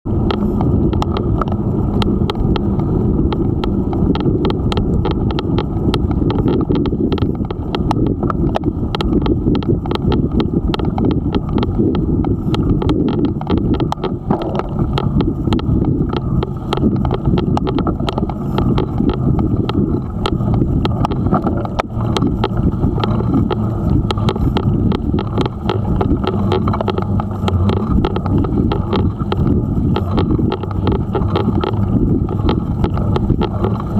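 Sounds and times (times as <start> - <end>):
bicycle tyres on rough pavement: 0.0 - 33.9
wind on microphone: 0.0 - 33.9
bicycle clicks and rattles: 0.1 - 33.9.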